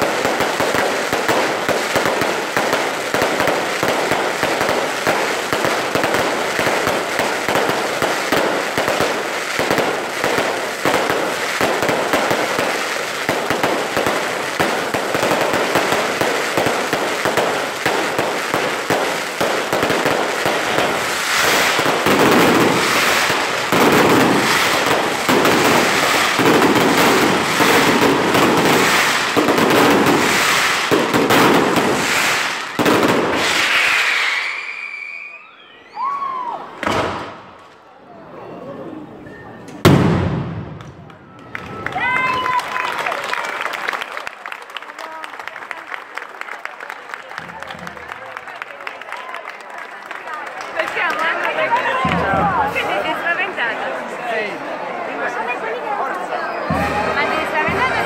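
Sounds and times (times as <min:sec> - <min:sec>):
fireworks crackling: 0:00.0 - 0:37.9, 0:39.8 - 0:54.2, 0:55.2 - 0:58.0.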